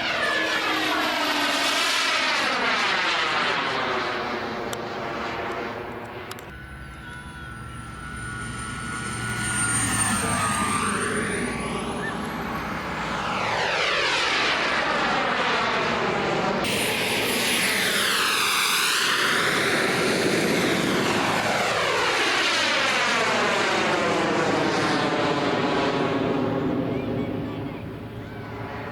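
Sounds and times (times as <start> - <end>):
model jet turbine whine: 0.0 - 28.9.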